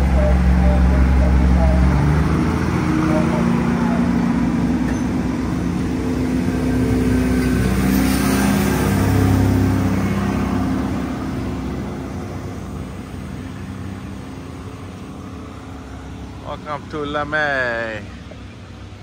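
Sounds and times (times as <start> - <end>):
diesel train engine drone: 0.0 - 19.0
train cars rumbling on track: 0.0 - 19.0.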